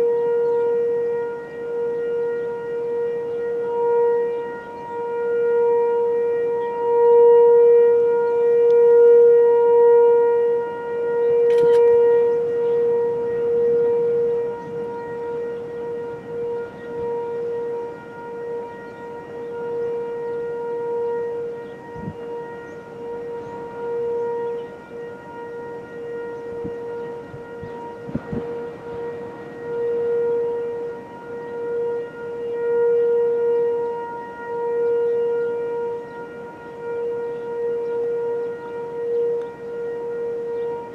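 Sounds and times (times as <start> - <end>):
tornado warning siren wailing: 0.0 - 40.9.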